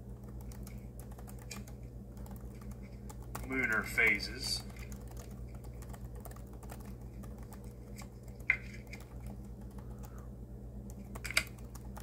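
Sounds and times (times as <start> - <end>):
typing on a keyboard: 0.0 - 12.0.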